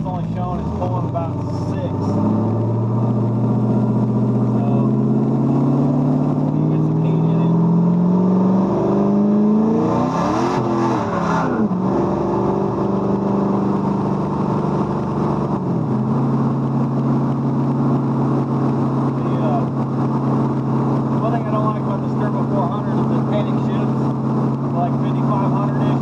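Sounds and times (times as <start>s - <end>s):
car engine under load: 0.0s - 26.0s.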